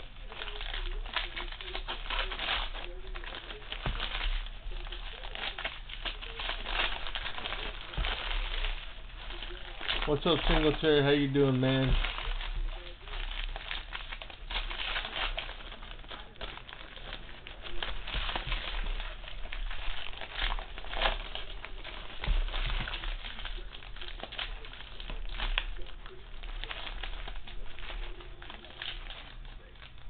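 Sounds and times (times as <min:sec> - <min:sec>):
cards rustling: 0:00.0 - 0:30.0
foil wrappers crinkling and tearing: 0:00.0 - 0:30.0.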